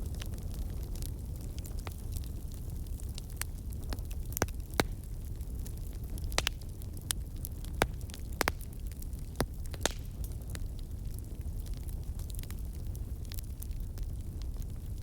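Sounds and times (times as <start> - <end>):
campfire wood popping: 0.0 - 15.0
low fire rumble: 0.0 - 15.0.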